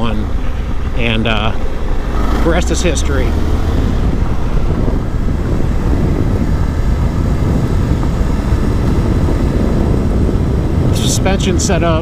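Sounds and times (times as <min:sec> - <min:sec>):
motorcycle engine rumble: 0:00.0 - 0:12.0
wind and road noise: 0:00.0 - 0:12.0.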